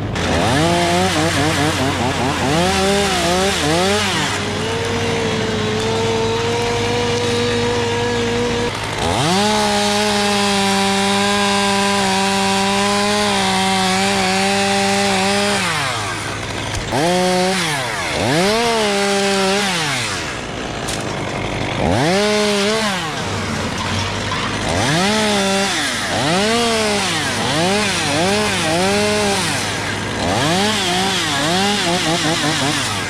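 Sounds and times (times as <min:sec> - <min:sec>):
chainsaw revving: 0:00.0 - 0:33.0.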